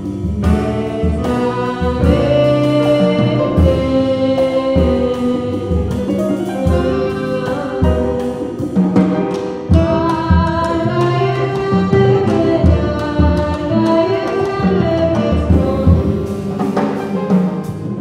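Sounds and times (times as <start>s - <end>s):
woman singing: 0.0s - 8.9s, 9.7s - 16.5s
latin jazz band playing: 0.0s - 18.0s.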